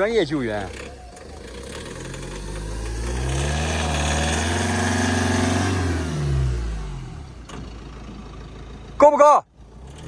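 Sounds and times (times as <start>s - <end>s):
vehicle engine revving: 0.0s - 9.0s, 9.6s - 10.0s.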